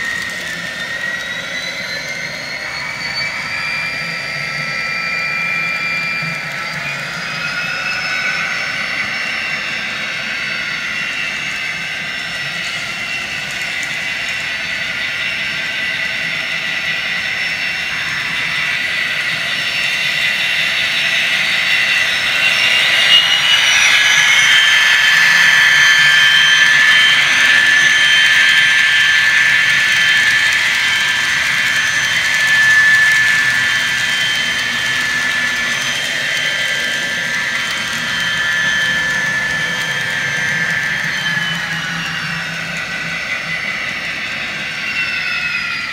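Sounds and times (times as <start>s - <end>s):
model train engine sound whine: 0.0s - 45.9s.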